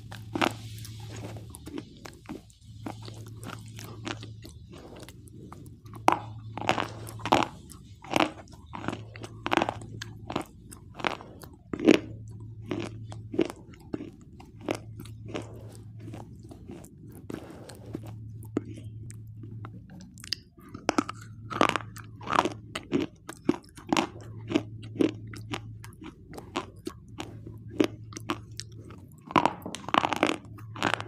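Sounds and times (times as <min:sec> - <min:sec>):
crunching and chewing: 0:00.0 - 0:31.0.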